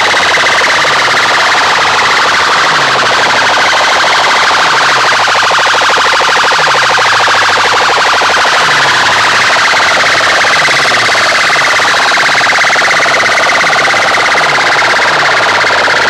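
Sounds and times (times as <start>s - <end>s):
electronic siren-like music: 0.0s - 16.0s
falling bass sweep: 0.0s - 16.0s.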